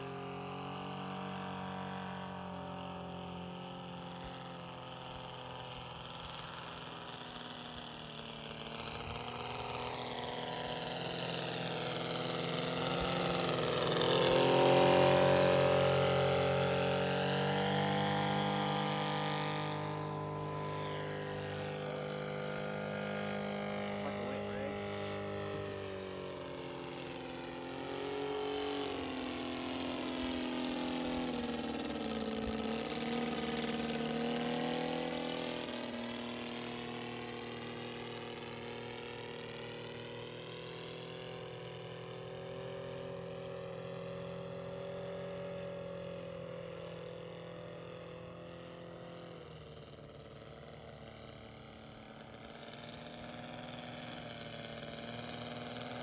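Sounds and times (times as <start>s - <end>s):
model plane engine and propeller: 0.0s - 56.0s.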